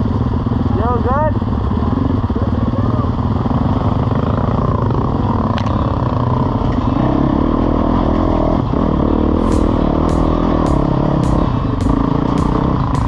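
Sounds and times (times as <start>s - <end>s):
motorcycle engine running: 0.0s - 13.0s
motorcycle clatter: 0.4s - 7.3s, 8.7s - 13.0s.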